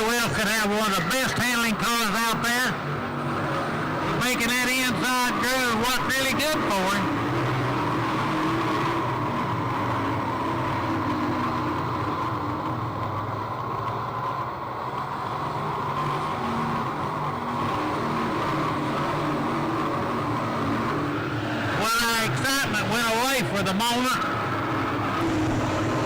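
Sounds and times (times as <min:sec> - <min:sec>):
race car engines droning: 0:00.0 - 0:26.0.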